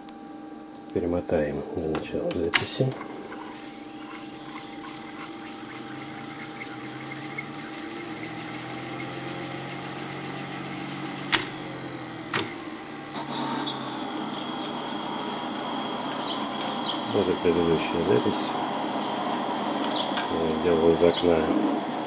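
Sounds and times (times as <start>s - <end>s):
tape recorder rewinding whir: 2.0s - 22.0s.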